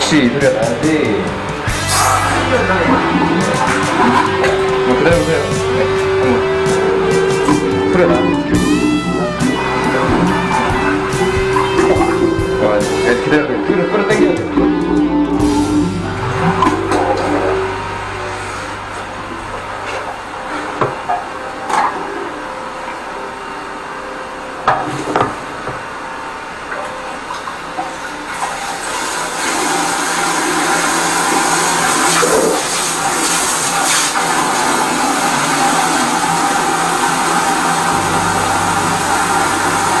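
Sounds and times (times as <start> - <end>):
drain jetter water rush: 0.0 - 23.0, 24.6 - 40.0.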